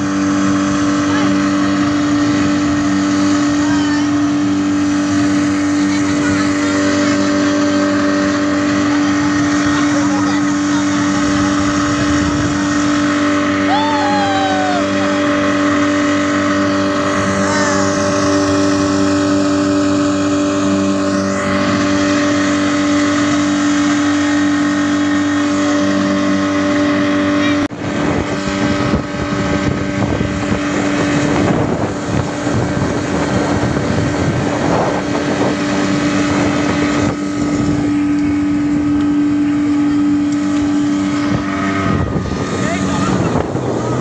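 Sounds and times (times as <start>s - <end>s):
outboard motor drone: 0.0s - 44.0s
rush of wind and water: 0.0s - 44.0s.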